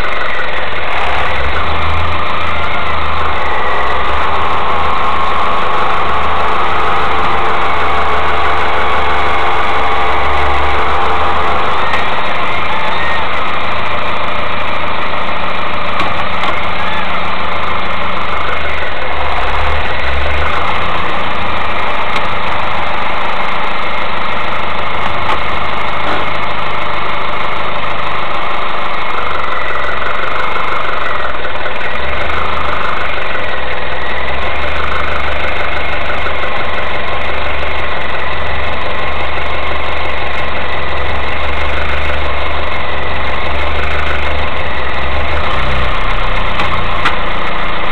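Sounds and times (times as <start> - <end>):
car engine idling: 0.0 - 47.9.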